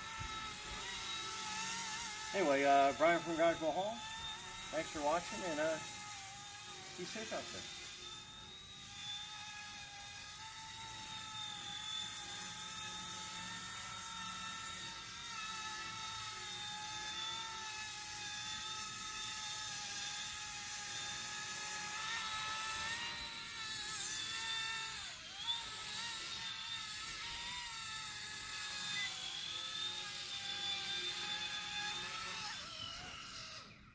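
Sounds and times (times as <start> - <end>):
toy helicopter motor whine: 0.0 - 33.9.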